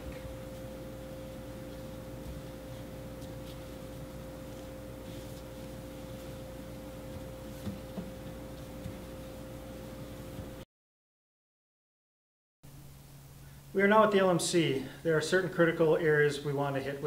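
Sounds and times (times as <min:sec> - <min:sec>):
steady electrical hum: 0:00.0 - 0:10.7, 0:12.7 - 0:17.0.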